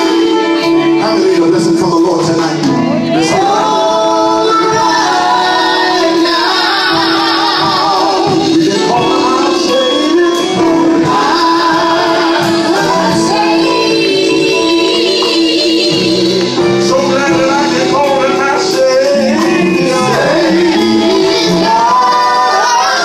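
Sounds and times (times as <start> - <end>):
group singing a hymn: 0.0 - 2.2, 2.8 - 23.0
sustained accompaniment: 0.0 - 23.0.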